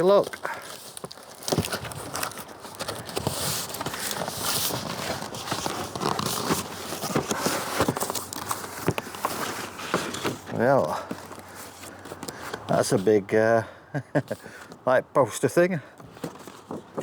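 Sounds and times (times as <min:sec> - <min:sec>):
cardboard rustling and crinkling: 0:00.0 - 0:13.2, 0:16.0 - 0:17.0.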